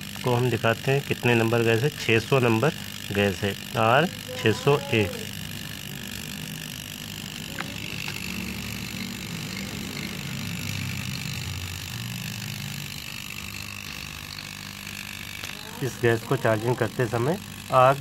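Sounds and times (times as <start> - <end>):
air conditioner compressor humming: 0.0 - 18.0.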